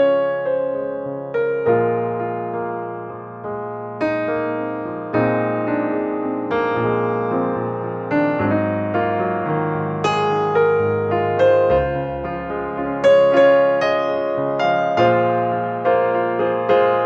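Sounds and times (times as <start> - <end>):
slow gentle piano chords: 0.0 - 17.0.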